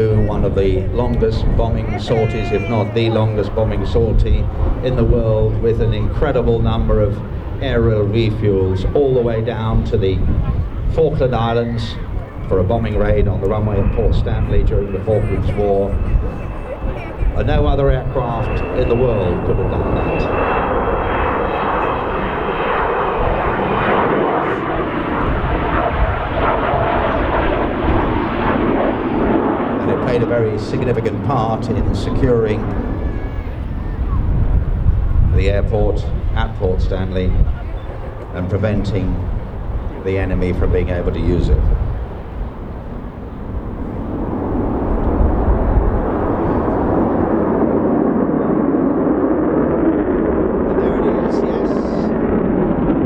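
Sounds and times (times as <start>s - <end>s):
loud jet engine noise: 0.0s - 53.0s.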